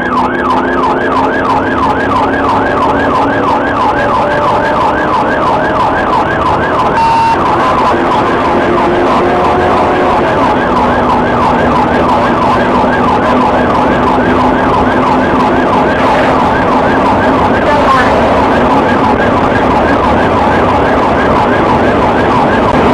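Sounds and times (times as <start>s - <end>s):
car engine and road noise: 0.0s - 22.9s
police siren yelping: 0.0s - 22.9s.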